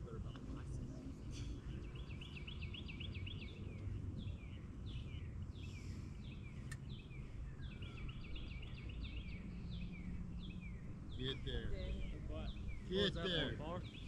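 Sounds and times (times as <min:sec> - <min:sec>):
birds singing: 0:00.0 - 0:14.0
low steady rumble: 0:00.0 - 0:14.0.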